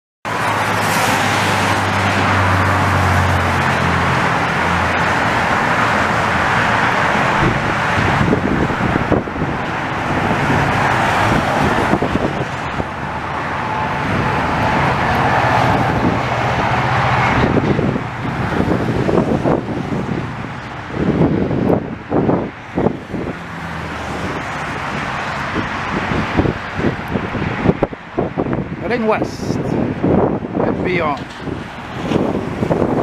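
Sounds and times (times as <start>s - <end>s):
road traffic: 0.2s - 33.0s.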